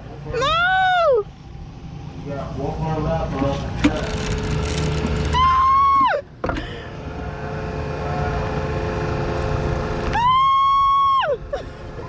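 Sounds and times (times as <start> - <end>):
bumper boats running: 0.0 - 12.0
water pump whining: 0.0 - 12.0.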